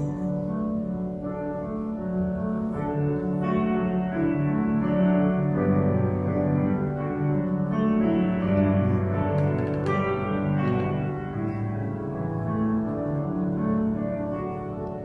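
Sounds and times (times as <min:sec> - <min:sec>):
keyboard playing slow hymn chords: 0:00.0 - 0:15.0.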